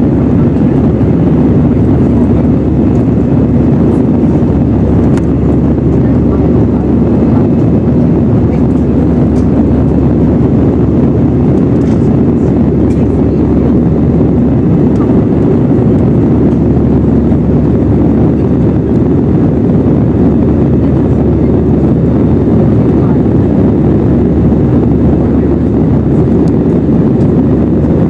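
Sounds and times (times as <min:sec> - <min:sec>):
airplane cabin engine noise: 0:00.0 - 0:28.0.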